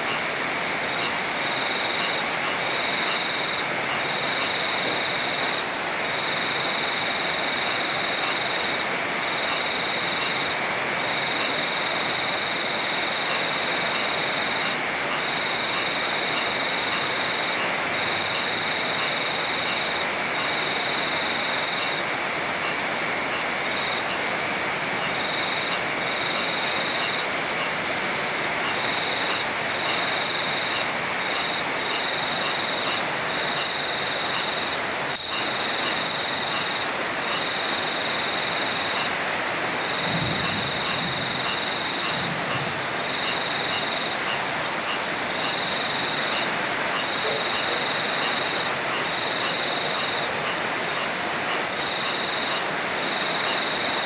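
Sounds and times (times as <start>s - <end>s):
heavy rain: 0.0s - 54.0s
rushing river: 0.0s - 54.0s.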